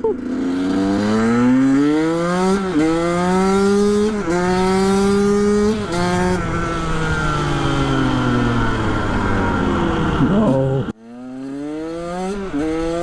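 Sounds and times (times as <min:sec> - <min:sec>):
two-stroke engine revving through gears: 0:00.2 - 0:13.0.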